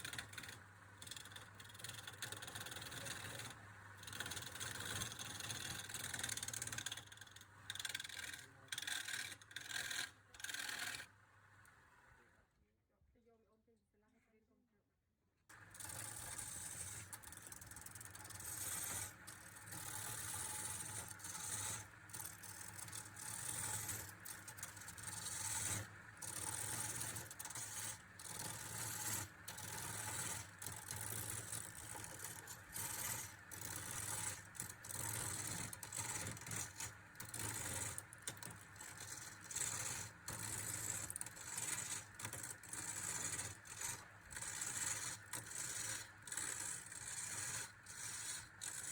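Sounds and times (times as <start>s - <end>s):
lathe tool scraping wood: 0.0s - 11.0s, 15.6s - 48.9s.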